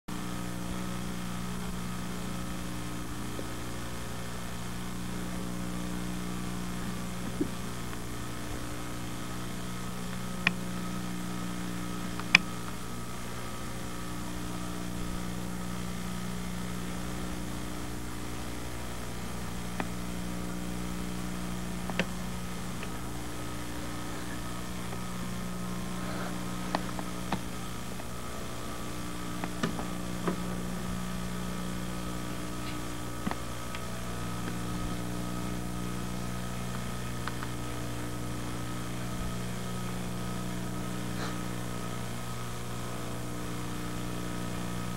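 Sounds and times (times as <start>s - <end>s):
low hum: 0.1s - 44.9s.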